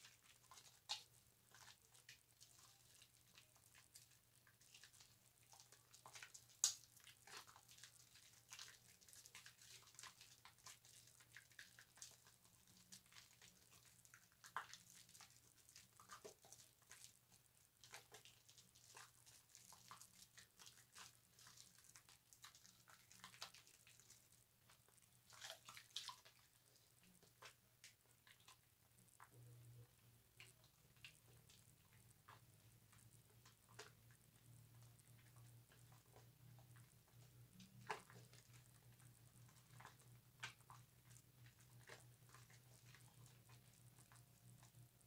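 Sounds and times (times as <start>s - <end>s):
soap lathering on a loofah: 0.0s - 45.0s.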